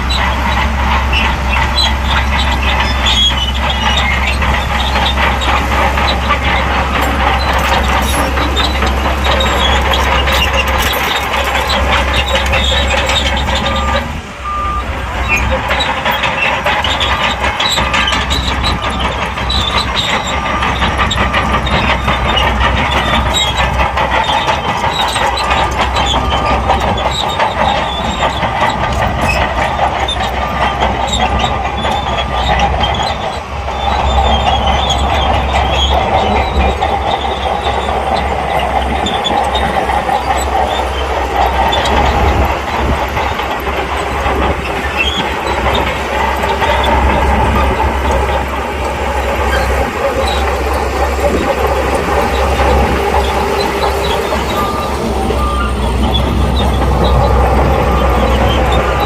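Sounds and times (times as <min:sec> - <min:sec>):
bulldozer diesel engine droning: 0:00.0 - 0:59.0
steel tracks clanking and rattling: 0:00.0 - 0:59.0.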